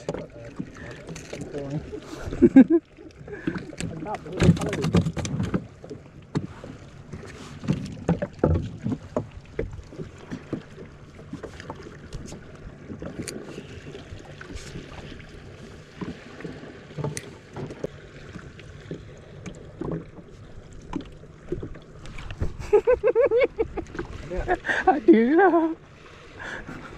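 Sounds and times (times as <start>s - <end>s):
water lapping at hull: 0.0s - 26.9s.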